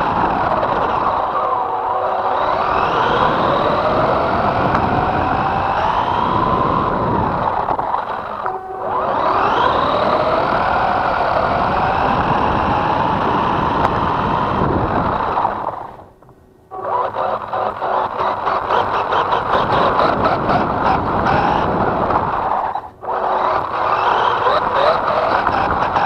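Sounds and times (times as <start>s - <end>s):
toy truck electric motor whining: 0.0s - 16.1s, 16.7s - 26.0s.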